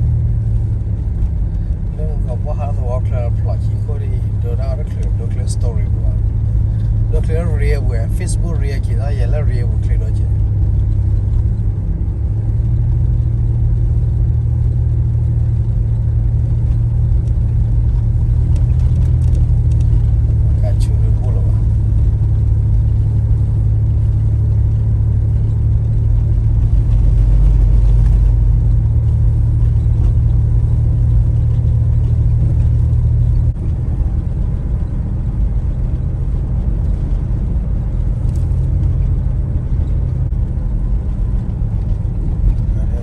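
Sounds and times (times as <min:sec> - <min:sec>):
car engine and road drone: 0:00.0 - 0:43.0.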